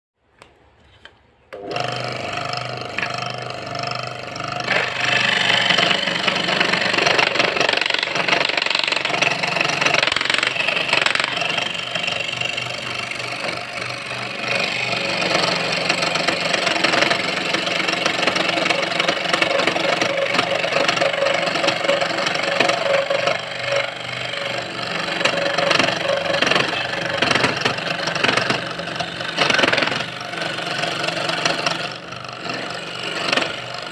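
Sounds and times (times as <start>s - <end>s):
saw blade cutting wood: 0.8s - 33.9s
small saw motor running: 1.6s - 33.9s.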